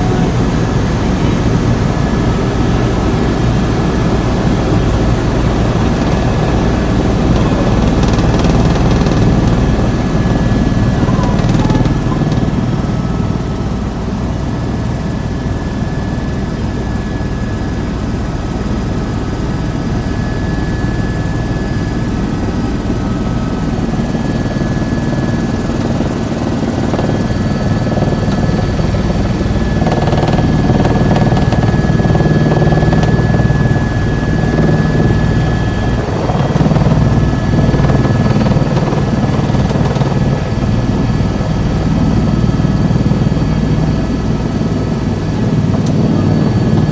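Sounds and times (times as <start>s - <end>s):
helicopter turbine and rotor: 0.0s - 46.9s.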